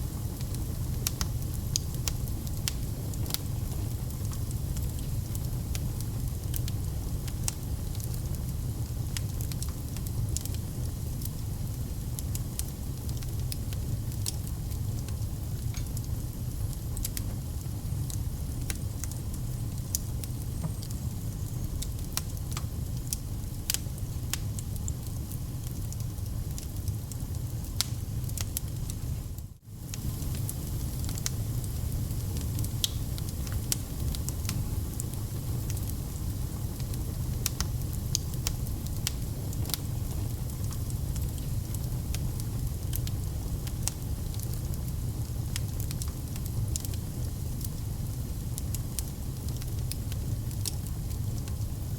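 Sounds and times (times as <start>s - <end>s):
fire crackling and popping: 0.0s - 51.9s
wood fire burning: 0.0s - 51.9s.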